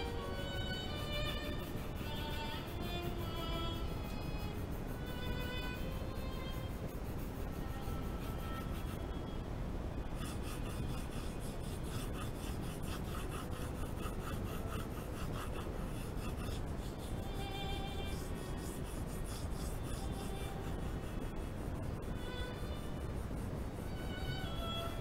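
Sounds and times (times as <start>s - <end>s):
pencil scratching on paper: 0.0s - 9.2s, 10.0s - 24.9s
faint music: 0.0s - 25.0s.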